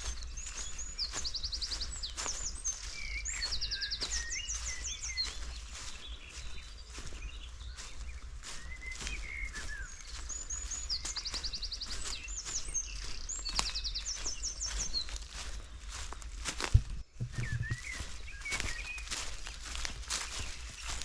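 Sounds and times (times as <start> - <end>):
footsteps on forest floor: 0.0 - 21.0
songbirds chirping and trilling: 0.0 - 21.0.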